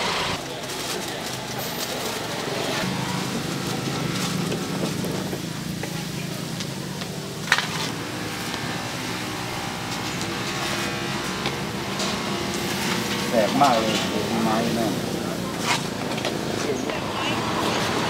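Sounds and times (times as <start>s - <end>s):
street background noise: 0.0s - 18.0s.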